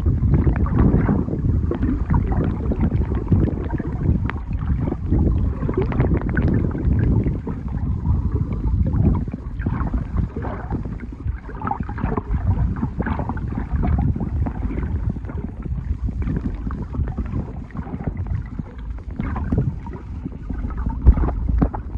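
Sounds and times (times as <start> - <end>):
underwater clicks and crackles: 0.0 - 21.9
underwater rumble of moving water: 0.0 - 21.9.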